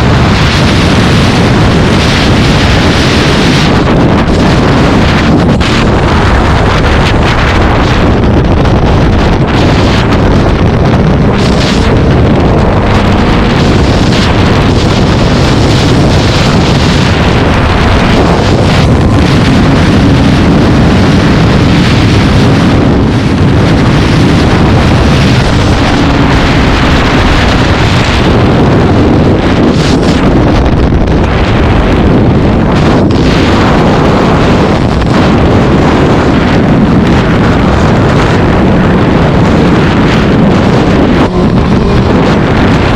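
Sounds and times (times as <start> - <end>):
faint engine running: 0.0 - 31.9, 37.2 - 42.9
wind buffeting microphone: 0.0 - 42.9.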